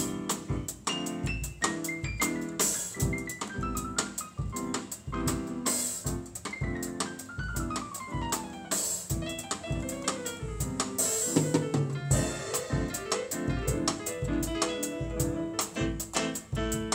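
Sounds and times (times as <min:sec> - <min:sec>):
drum-kit beat: 0:00.0 - 0:16.9
electronic keyboard playing: 0:00.0 - 0:16.9.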